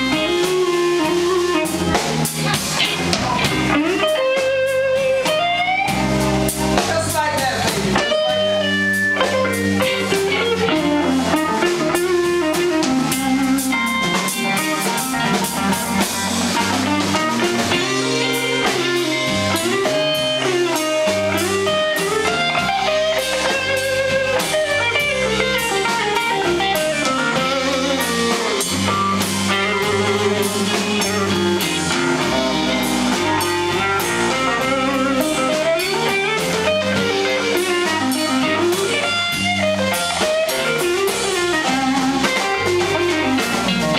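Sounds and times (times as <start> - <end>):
electric guitar leading: 0.0 - 43.9
live blues band: 0.0 - 43.9.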